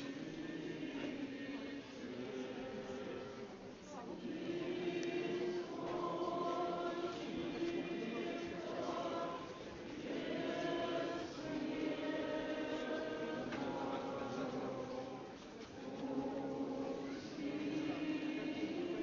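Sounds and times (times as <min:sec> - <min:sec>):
choir chanting: 0:00.0 - 0:03.6, 0:04.2 - 0:19.0.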